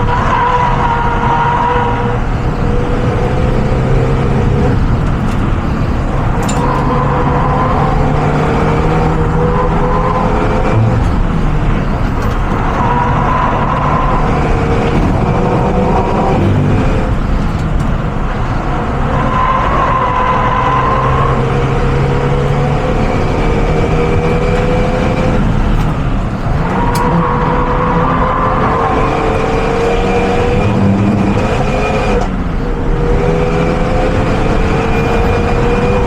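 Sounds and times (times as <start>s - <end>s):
car engine running hard: 0.0s - 36.0s.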